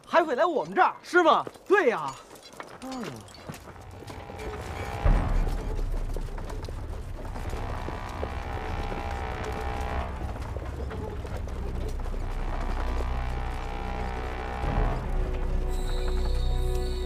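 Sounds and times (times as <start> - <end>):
wooden carriages creaking and rattling: 0.0 - 17.0.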